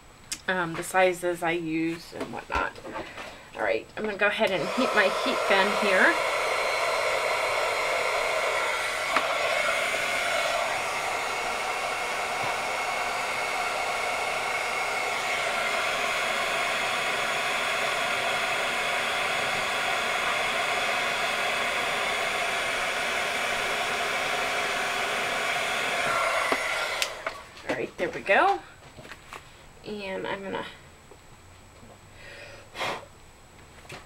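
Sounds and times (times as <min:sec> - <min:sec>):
heat gun fan blowing: 0:00.7 - 0:28.6.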